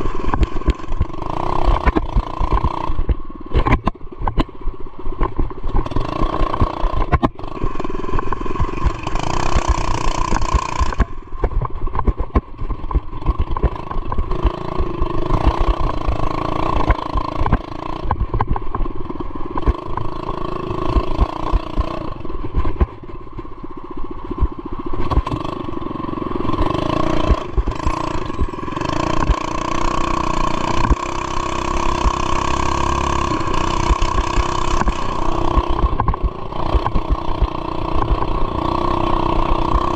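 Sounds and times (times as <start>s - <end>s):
small motorbike engine revving: 0.0s - 4.5s, 5.7s - 11.7s, 12.9s - 18.7s, 19.5s - 22.9s, 25.0s - 39.9s
constant rattle: 0.0s - 39.9s.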